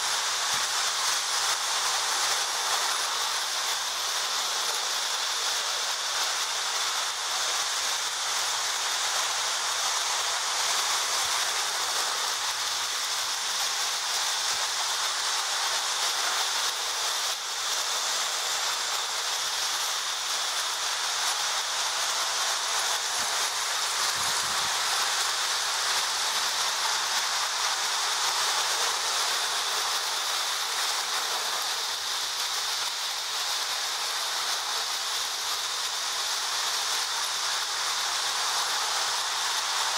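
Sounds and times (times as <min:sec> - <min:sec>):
toy train wheels whirring on rails: 0:00.0 - 0:39.9.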